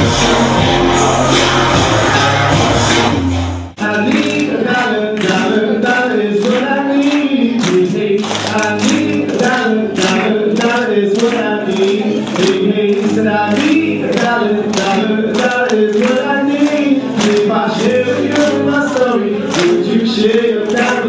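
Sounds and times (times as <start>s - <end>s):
people singing: 0.0s - 3.1s, 3.8s - 21.0s
bass-heavy music: 0.0s - 21.0s
tapping beat: 3.8s - 21.0s.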